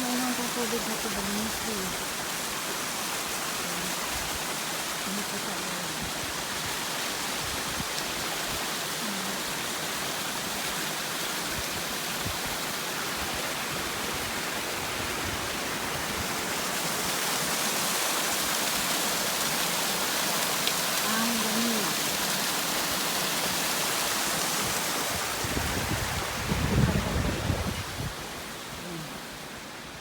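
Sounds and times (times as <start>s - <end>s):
rushing falling water: 0.0s - 30.0s.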